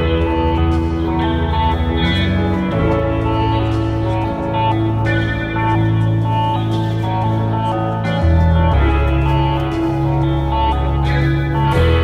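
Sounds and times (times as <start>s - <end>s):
r and b music with guitar: 0.0s - 12.0s.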